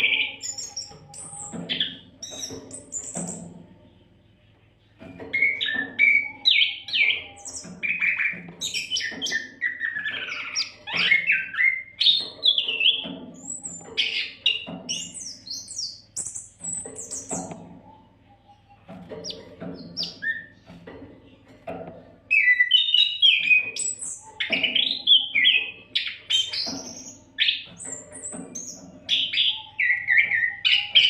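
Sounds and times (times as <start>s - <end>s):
bird singing whistles and chirps: 0.0s - 3.4s, 5.3s - 17.6s, 19.9s - 20.6s, 22.3s - 31.0s.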